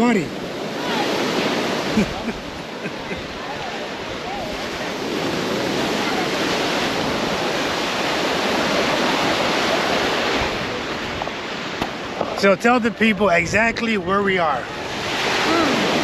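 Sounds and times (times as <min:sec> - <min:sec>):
sea surf breaking: 0:00.0 - 0:16.0.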